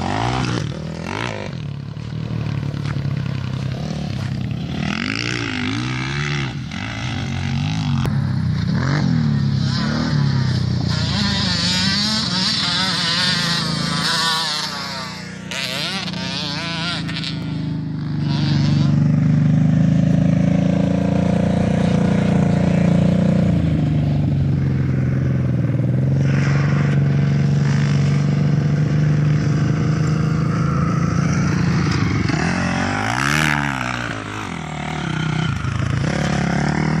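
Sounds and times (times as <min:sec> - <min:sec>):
dirt bike revving past: 0:00.0 - 0:37.0.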